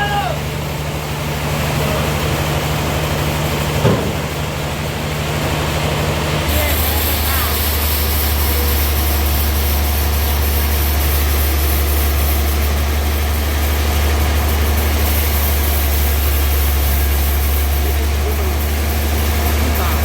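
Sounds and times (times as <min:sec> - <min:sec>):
sawmill engine droning: 0:00.0 - 0:20.0.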